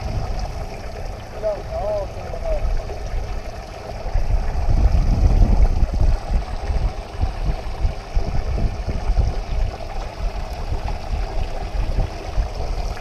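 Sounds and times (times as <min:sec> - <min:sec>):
water running and splashing: 0:00.0 - 0:13.0
wind on microphone: 0:00.0 - 0:13.0.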